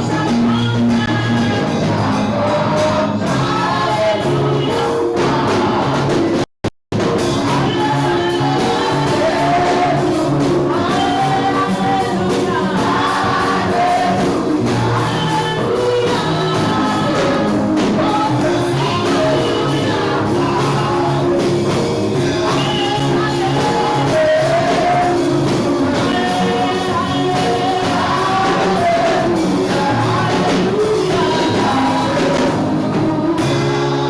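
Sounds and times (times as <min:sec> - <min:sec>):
congregation singing gospel: 0:00.0 - 0:34.0
instrumental accompaniment: 0:00.0 - 0:34.0.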